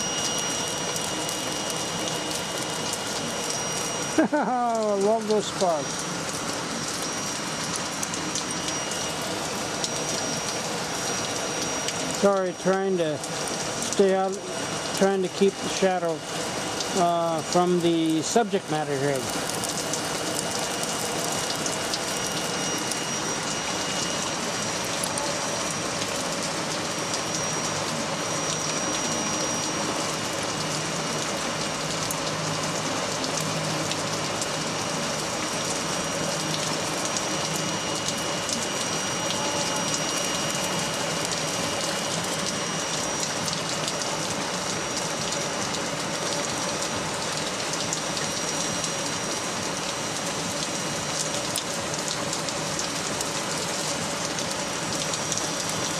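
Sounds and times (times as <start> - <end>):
faint motor whine: 0.0 - 55.9.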